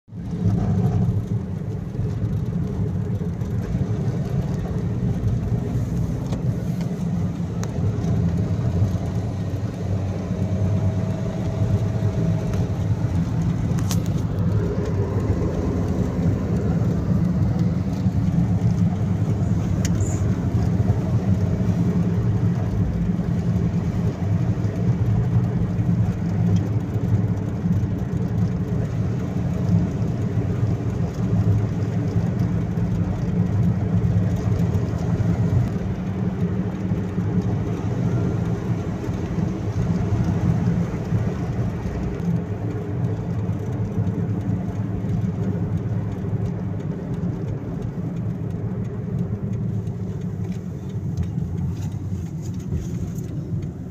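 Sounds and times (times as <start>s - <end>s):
car engine and tyre road noise: 0.0s - 53.9s.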